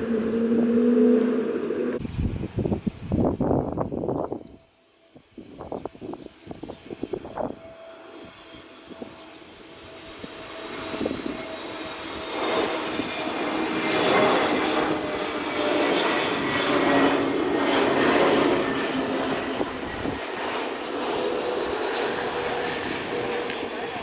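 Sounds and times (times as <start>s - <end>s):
jet engines passing: 0.0s - 4.2s, 5.1s - 24.0s.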